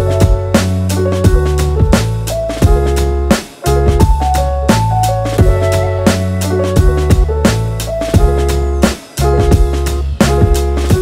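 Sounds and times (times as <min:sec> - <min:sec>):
drum kit beat: 0:00.0 - 0:11.0.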